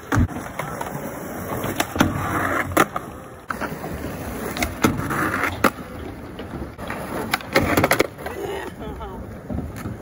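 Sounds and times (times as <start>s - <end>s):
skateboard popping and landing: 0.0s - 10.0s
skateboard wheels rolling on concrete: 0.0s - 10.0s.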